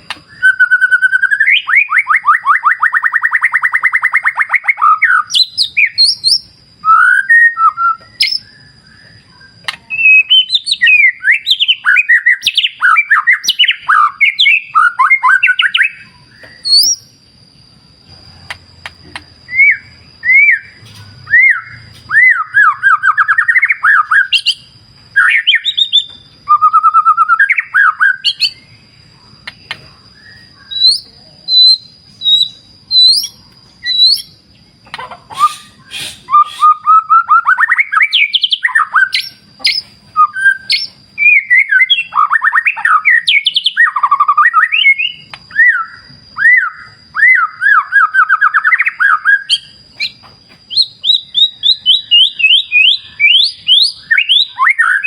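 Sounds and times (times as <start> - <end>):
bird singing whistled phrases: 0.1 - 17.2, 19.1 - 28.7, 30.2 - 34.4, 35.3 - 55.0.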